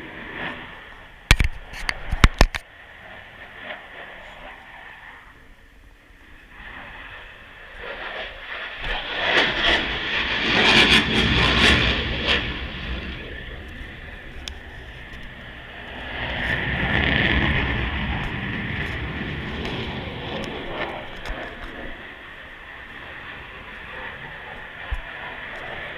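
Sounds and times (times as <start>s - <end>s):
plane passing overhead: 0.0s - 25.9s.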